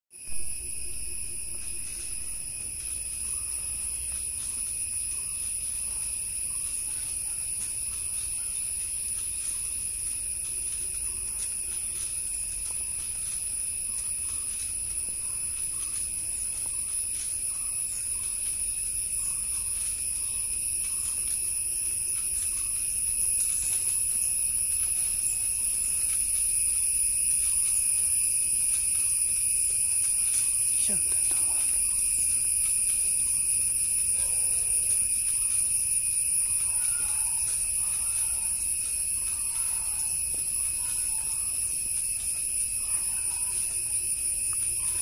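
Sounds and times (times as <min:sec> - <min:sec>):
insect chorus: 0:00.1 - 0:45.0.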